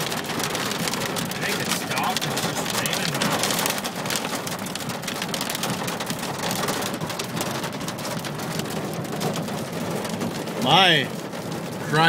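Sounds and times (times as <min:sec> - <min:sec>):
hail and rain on car roof: 0:00.0 - 0:12.0.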